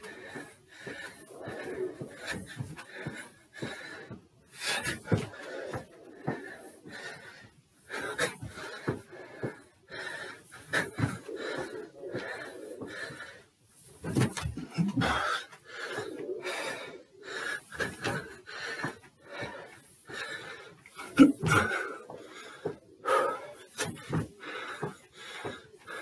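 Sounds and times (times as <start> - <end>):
man breathing hard: 0.0 - 26.0
footfalls on stairs: 0.1 - 26.0.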